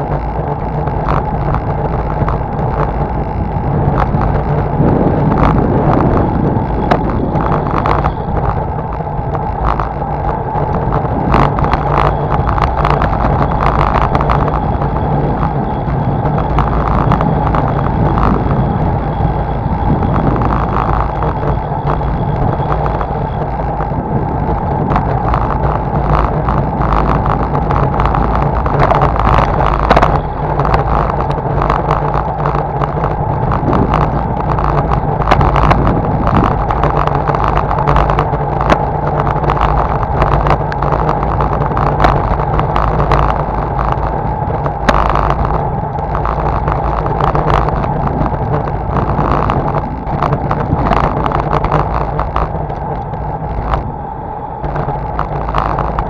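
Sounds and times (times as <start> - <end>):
bicycle riding rumble: 0.0 - 56.0
bike rattling over bumps: 0.0 - 56.0
wind rush: 0.0 - 56.0.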